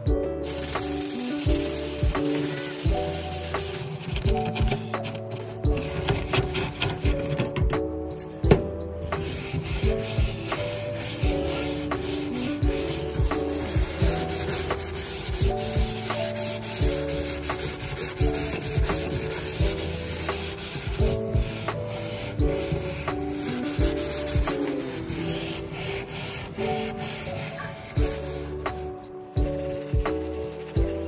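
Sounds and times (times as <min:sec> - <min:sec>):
background music: 0:00.0 - 0:31.0
steel wool scrubbing metal: 0:00.0 - 0:31.0.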